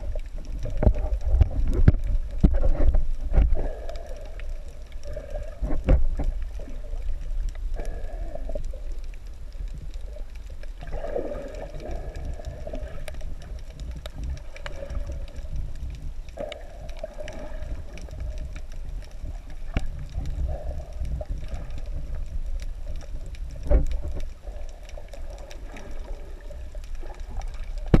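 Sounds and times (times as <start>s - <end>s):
muffled water swells: 0.0s - 28.0s
underwater rumble of moving water: 0.0s - 28.0s.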